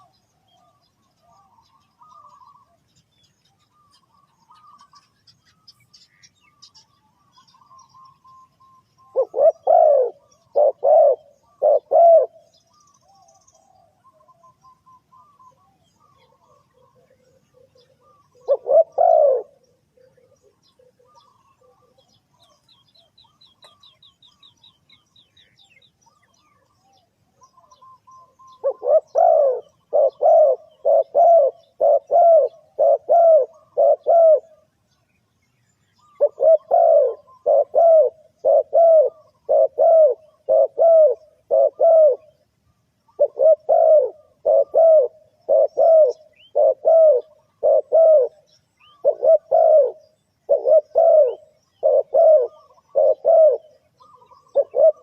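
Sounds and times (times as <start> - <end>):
dove cooing: 0.0 - 34.7, 36.0 - 42.4, 43.0 - 55.0.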